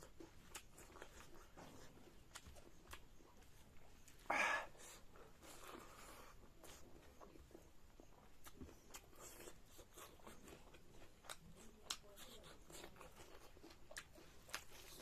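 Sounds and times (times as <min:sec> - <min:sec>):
chewing and crunching food: 0:00.0 - 0:15.0.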